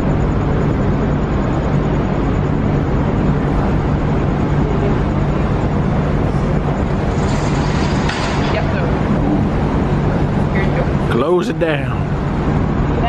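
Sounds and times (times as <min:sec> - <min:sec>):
ship machinery humming: 0:00.0 - 0:13.0.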